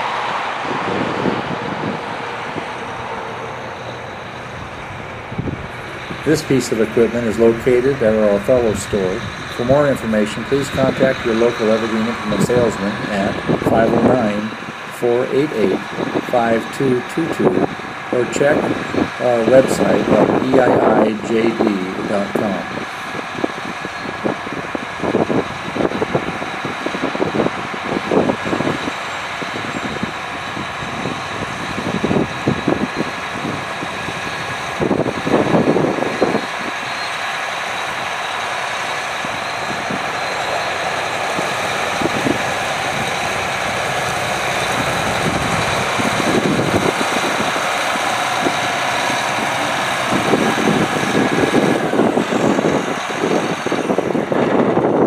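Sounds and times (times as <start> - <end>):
tractor diesel engine running: 0.0 - 55.0
wind buffeting microphone: 0.0 - 55.0.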